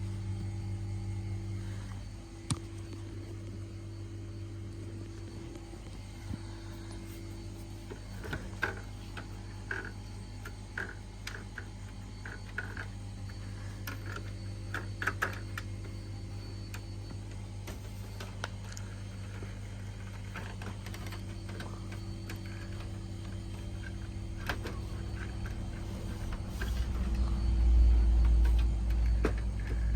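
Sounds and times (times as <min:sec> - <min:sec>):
air conditioner humming: 0:00.0 - 0:29.9.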